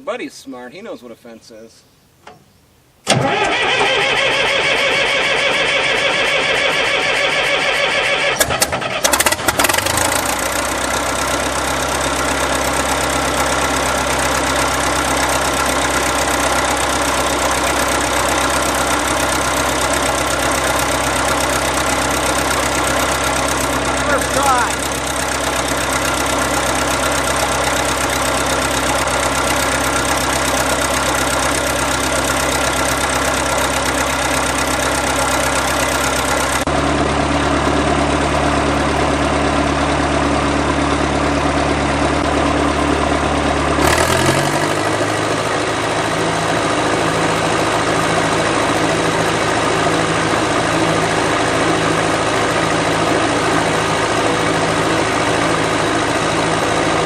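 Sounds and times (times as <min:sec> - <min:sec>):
diesel engine running: 0:03.0 - 0:57.0.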